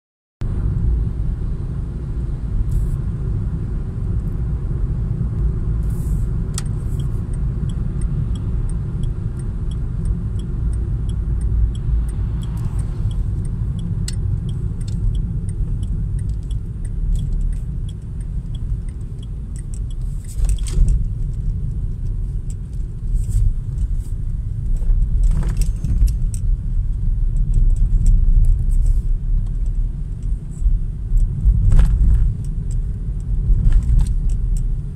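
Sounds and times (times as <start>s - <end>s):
car engine and tyre rumble: 0.4s - 34.9s
light regular ticking: 6.3s - 34.9s.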